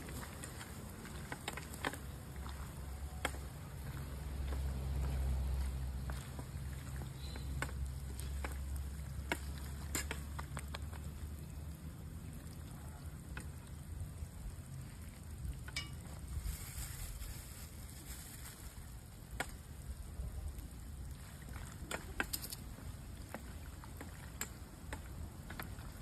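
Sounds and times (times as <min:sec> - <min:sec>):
campfire crackles and pops: 0:00.0 - 0:12.6, 0:13.2 - 0:16.4, 0:17.7 - 0:26.0.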